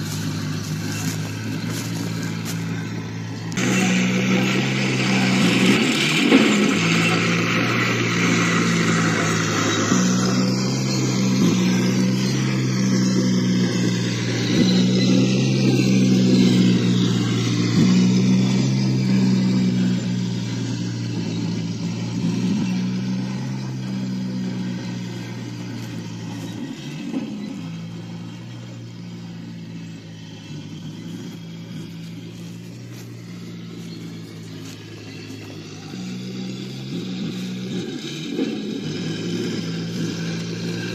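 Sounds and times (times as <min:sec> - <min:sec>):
leaves rustling: 0:00.0 - 0:38.2
toy motor drone: 0:00.0 - 0:40.9.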